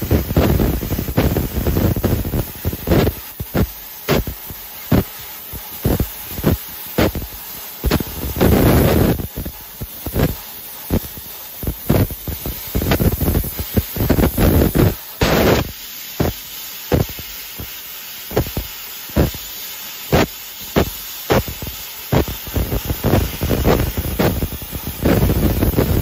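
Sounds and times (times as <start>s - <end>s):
laser cutter gas hissing: 0.0s - 26.0s.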